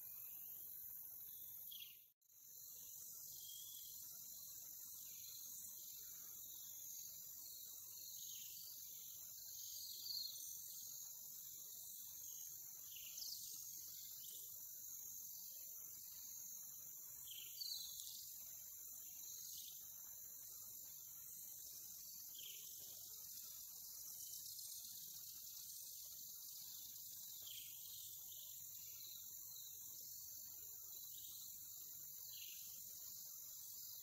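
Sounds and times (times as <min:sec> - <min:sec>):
insect chorus trilling: 0:00.0 - 0:34.0.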